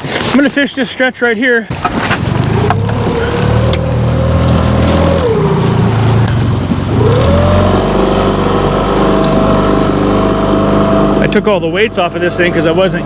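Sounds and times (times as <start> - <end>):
boat motor running: 1.7 - 13.0.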